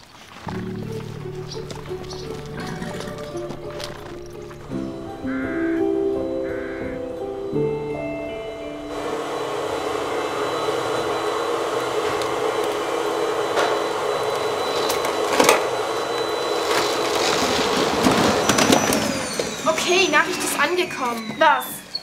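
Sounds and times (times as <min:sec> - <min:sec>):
vacuum cleaner running: 0:00.5 - 0:22.0.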